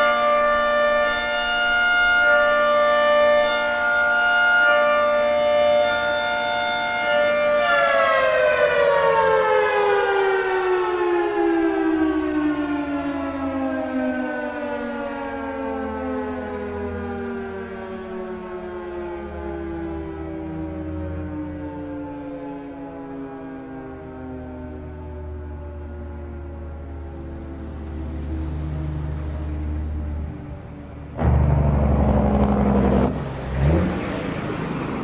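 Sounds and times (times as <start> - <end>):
rotating warning siren: 0.0 - 35.0.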